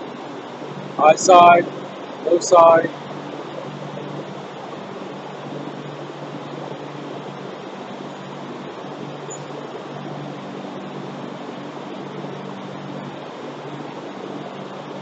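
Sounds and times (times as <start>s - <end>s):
low machine hum: 0.0s - 15.0s
even rushing noise: 0.7s - 14.8s.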